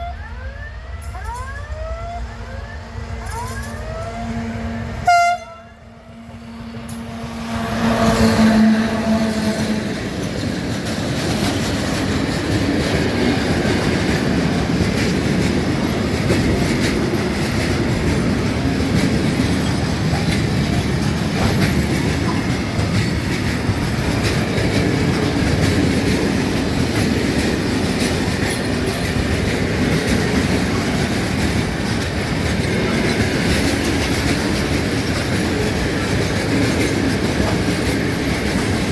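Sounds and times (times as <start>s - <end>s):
freight train rumbling: 0.0s - 38.9s
wheels clacking over rail joints: 6.8s - 38.9s.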